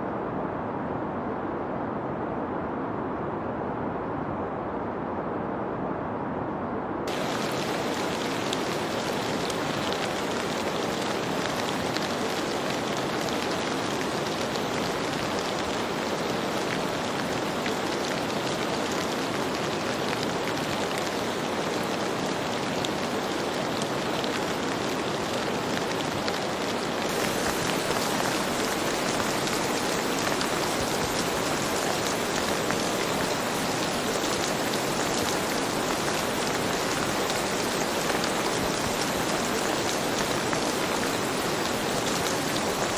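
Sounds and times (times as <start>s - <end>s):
steady rain hiss: 7.1s - 42.9s.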